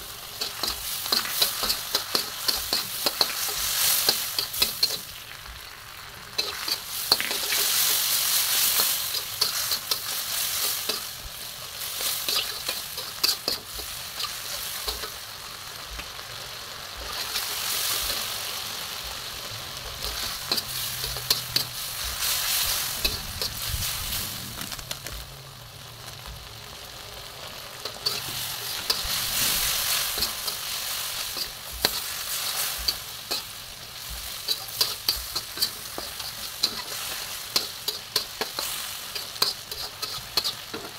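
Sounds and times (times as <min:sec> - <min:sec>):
metal spatula scraping wok: 0:00.0 - 0:05.4, 0:06.3 - 0:15.3, 0:17.0 - 0:18.7, 0:19.8 - 0:24.8, 0:27.8 - 0:40.9
meat sizzling in a wok: 0:00.0 - 0:40.9.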